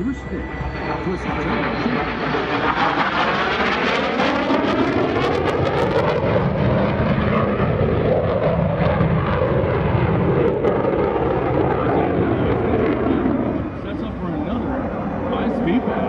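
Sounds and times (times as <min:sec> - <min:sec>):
loud fighter jet noise: 0:00.0 - 0:16.0.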